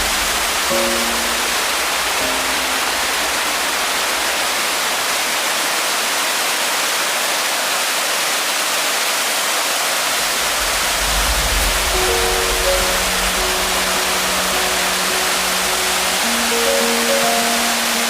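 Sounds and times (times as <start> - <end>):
stream rushing: 0.0 - 18.0.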